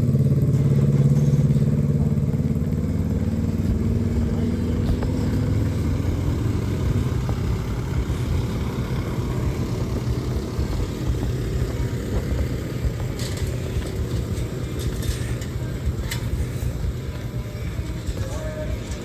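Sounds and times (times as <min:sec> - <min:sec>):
diesel truck engines rumbling: 0:00.0 - 0:19.0.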